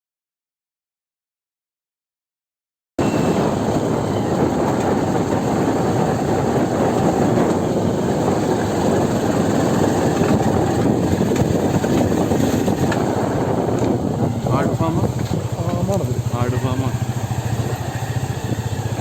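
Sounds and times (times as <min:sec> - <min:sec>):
motorcycle engine running: 0:03.0 - 0:19.0
wind buffeting microphone: 0:03.0 - 0:19.0.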